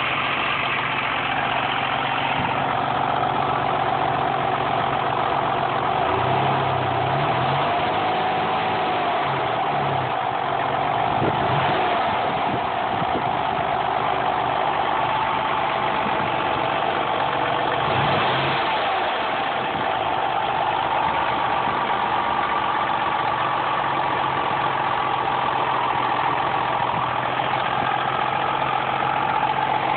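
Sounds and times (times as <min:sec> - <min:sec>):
car engine running: 0:00.0 - 0:29.9.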